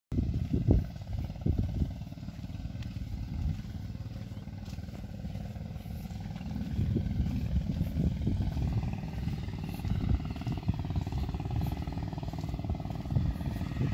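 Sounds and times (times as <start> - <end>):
lorry diesel engine rumble: 0.1 - 13.9.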